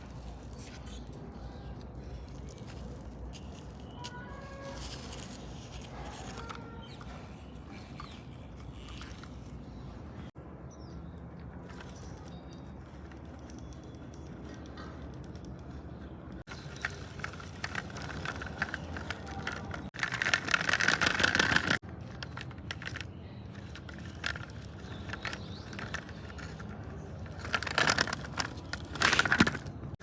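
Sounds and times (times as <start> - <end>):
plastic toy vehicles rattling: 0.0 - 10.3, 11.6 - 30.0.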